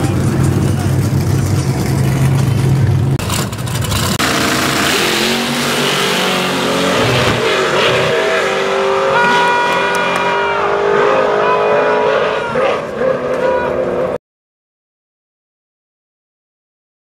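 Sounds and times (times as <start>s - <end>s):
race car engines revving: 0.0s - 14.2s.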